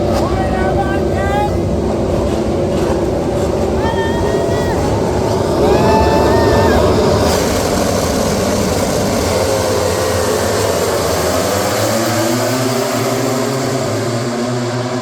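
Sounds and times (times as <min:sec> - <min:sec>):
racing motorcycles at high revs: 0:01.5 - 0:03.8, 0:04.4 - 0:15.0.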